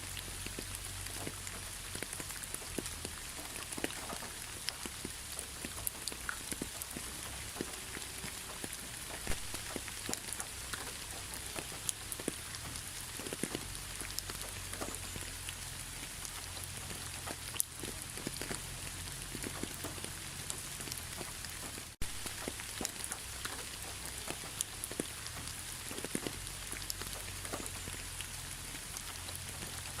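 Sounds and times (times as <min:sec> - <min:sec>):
raindrops pattering and dripping: 0:00.0 - 0:30.0
steady rain hiss: 0:00.0 - 0:30.0.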